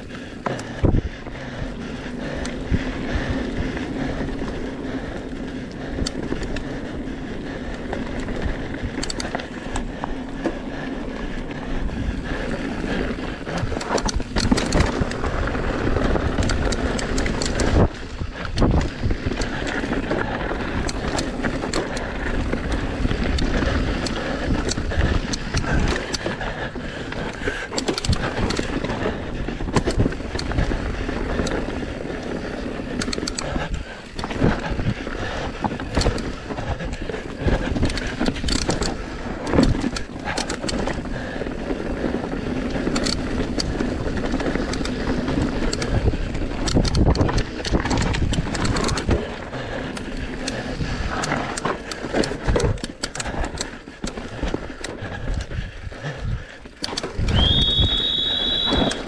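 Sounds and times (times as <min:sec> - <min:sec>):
bike knocking and rattling: 0:00.0 - 0:59.0
tyre and wind rush: 0:00.0 - 0:59.0.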